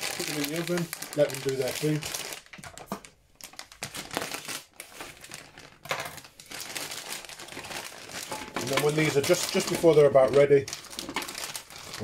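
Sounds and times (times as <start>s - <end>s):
crinkly food packaging rustling: 0.0s - 12.0s.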